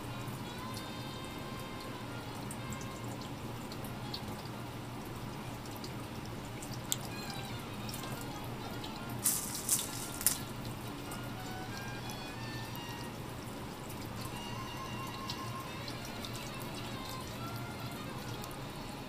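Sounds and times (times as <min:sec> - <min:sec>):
quiet background music: 0:00.0 - 0:19.0
water dripping and splashing: 0:00.4 - 0:19.0.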